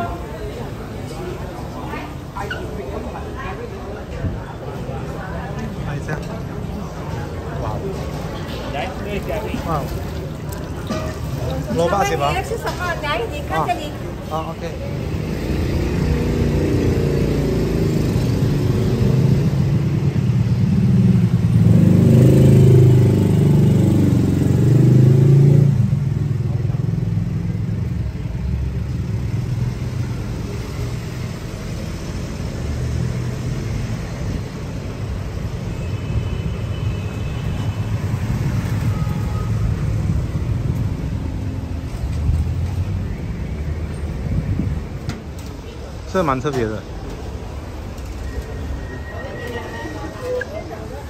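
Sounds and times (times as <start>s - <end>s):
traffic hum: 0.0s - 51.0s.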